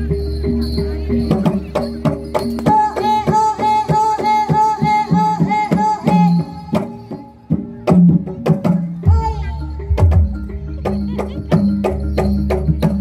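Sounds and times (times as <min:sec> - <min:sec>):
gamelan melody instrument: 0:00.0 - 0:13.0.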